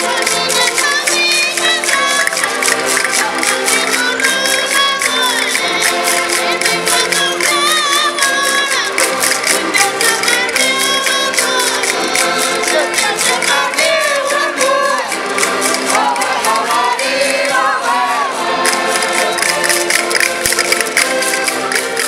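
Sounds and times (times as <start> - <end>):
women singing together: 0.0 - 2.5, 3.2 - 19.7
concertinas playing chords: 0.0 - 22.0.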